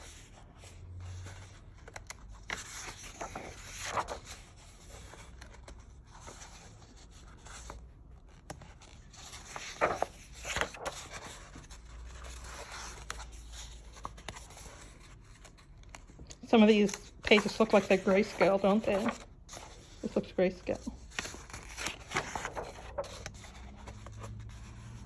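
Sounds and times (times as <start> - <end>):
paper pages rustling: 0.0 - 25.0.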